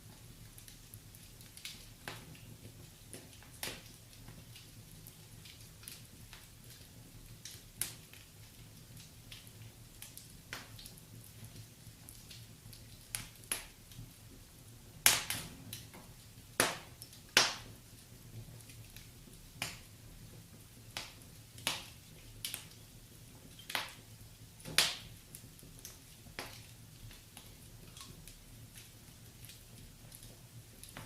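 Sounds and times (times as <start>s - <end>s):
faint low hiss: 0.0s - 31.0s
wood fire crackling and popping: 0.0s - 31.0s.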